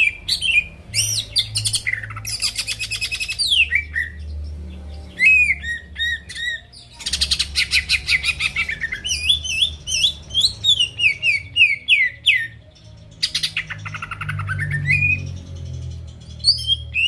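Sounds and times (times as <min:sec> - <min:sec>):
bird singing trills and whistles: 0:00.0 - 0:17.0.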